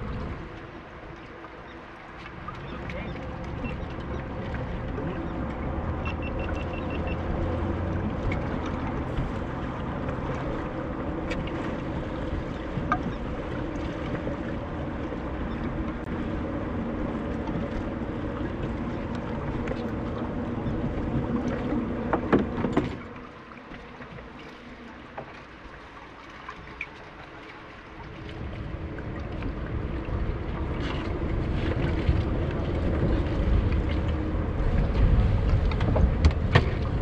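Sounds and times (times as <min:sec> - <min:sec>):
choppy water slapping boat: 0:00.0 - 0:37.0
wind: 0:00.0 - 0:37.0.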